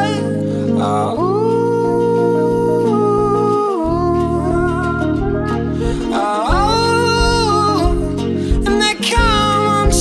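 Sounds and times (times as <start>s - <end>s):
person singing over instrumental backing: 0.0s - 10.0s.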